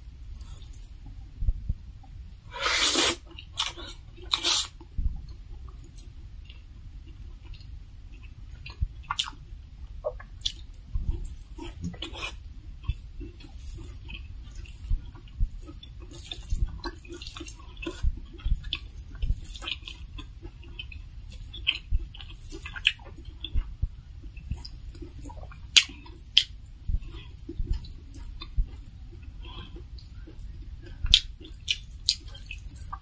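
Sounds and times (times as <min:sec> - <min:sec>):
chewing and wet mouth smacking: 0:02.8 - 0:09.4, 0:10.0 - 0:33.0.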